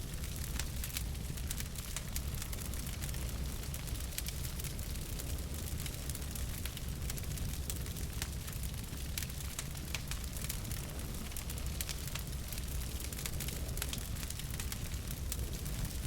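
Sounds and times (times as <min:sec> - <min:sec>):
fire popping and snapping: 0:00.0 - 0:16.0
low rumble of burning logs: 0:00.0 - 0:16.0
wood fire crackling: 0:00.0 - 0:16.0.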